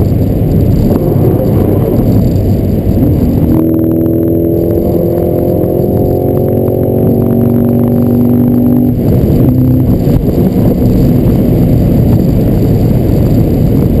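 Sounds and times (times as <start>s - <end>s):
car engine drone: 0.0s - 14.0s
road and wind noise: 0.0s - 14.0s.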